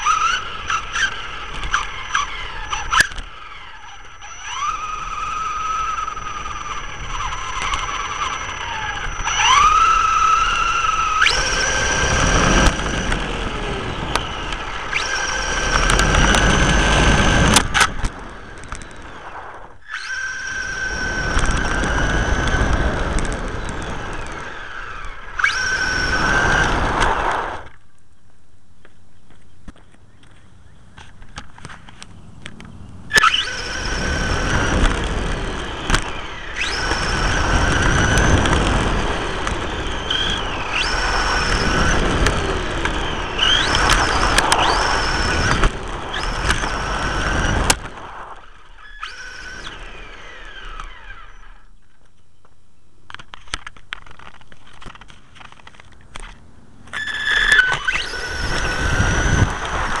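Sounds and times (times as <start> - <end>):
electric motor and gears whining: 0.0 - 27.8, 30.8 - 60.0.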